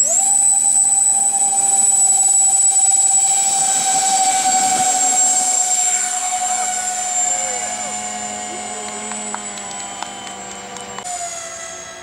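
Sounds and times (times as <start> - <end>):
electric ducted fans whine: 0.0 - 12.0
lower steady hum: 0.0 - 12.0.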